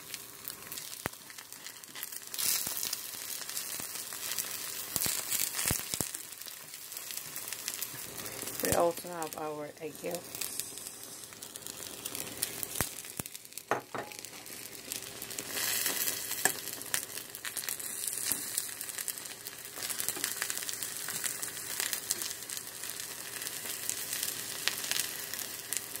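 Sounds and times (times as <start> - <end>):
omelet sizzling in a pan: 0.0 - 26.0.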